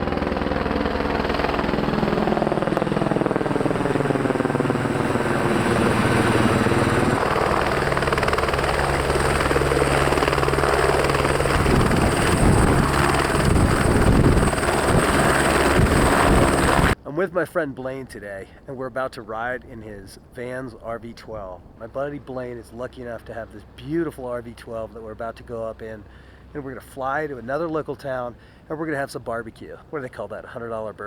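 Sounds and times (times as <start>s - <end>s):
light aircraft engine droning: 0.0s - 17.0s, 18.4s - 31.0s.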